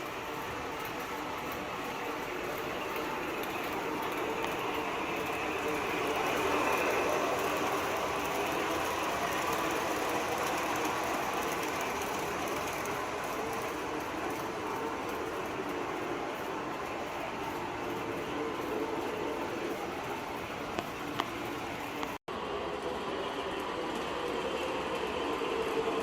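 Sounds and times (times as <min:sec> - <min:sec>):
model train motor whirring: 0:00.0 - 0:22.2
train running sound effects: 0:00.0 - 0:26.0.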